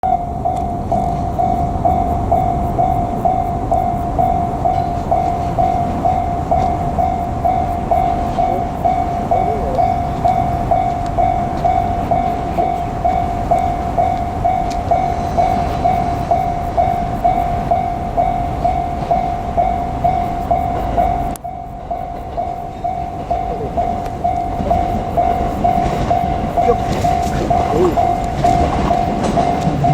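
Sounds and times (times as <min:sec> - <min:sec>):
level crossing bell ringing: 0:00.1 - 0:29.9.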